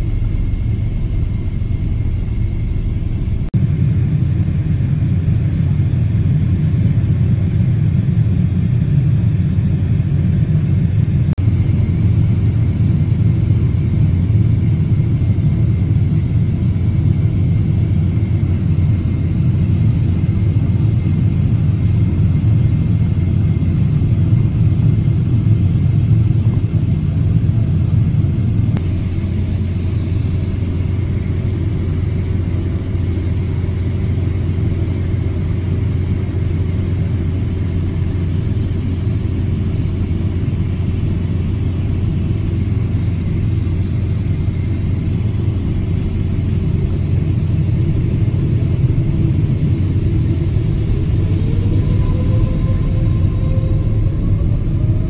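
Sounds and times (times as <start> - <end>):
airplane cabin rumble: 0.0 - 55.0
jet engines humming: 0.0 - 55.0.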